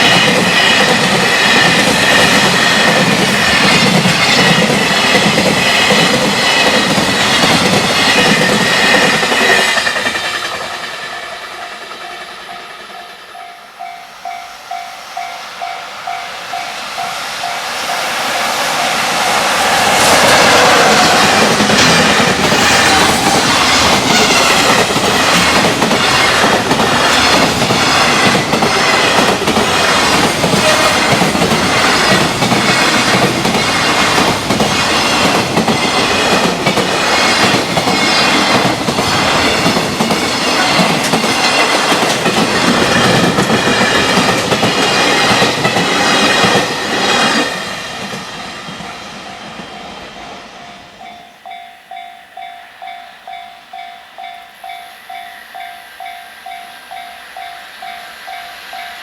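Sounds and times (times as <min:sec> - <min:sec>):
freight train passing: 0:00.0 - 0:59.0
level-crossing warning bell: 0:00.0 - 0:59.0.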